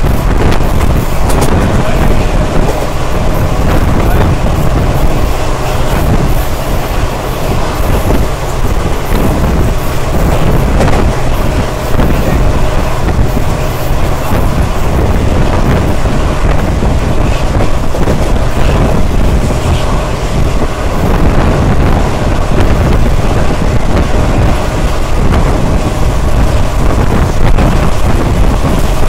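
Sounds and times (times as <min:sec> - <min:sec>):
train wheels rumbling: 0:00.0 - 0:29.0
wind buffeting microphone: 0:00.0 - 0:29.0.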